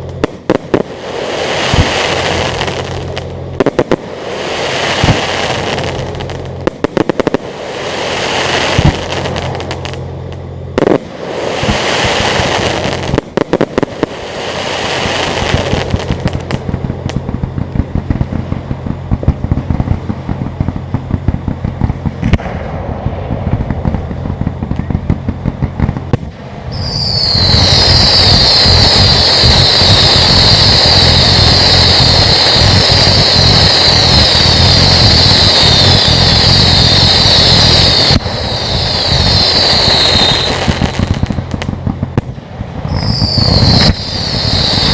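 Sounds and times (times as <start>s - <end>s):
whistling fireworks shrill hiss: 0.0s - 22.5s, 23.6s - 44.9s
fireworks bursts and crackling: 0.0s - 44.9s.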